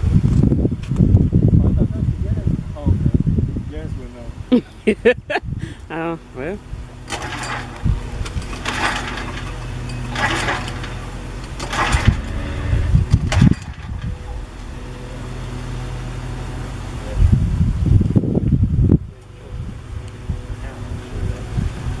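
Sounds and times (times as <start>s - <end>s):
small engine humming: 1.5s - 22.0s.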